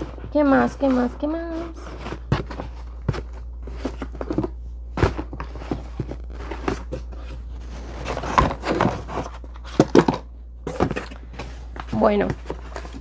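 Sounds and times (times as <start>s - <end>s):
packaging knocks and rustles: 0.0s - 13.0s
steady low hum: 0.0s - 13.0s.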